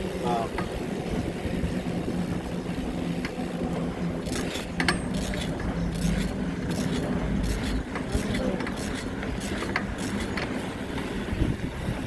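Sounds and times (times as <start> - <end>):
street noise hum: 0.0 - 12.0.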